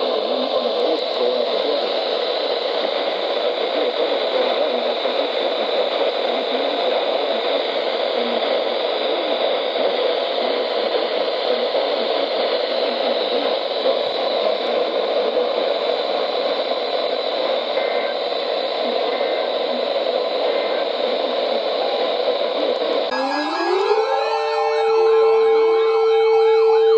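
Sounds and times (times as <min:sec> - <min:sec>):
radio static hiss: 0:00.0 - 0:26.9.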